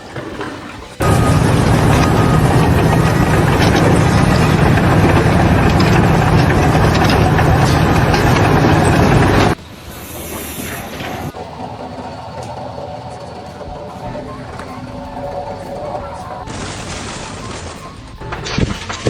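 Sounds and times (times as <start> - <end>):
large engine running loudly: 1.0 - 9.6, 10.6 - 17.8.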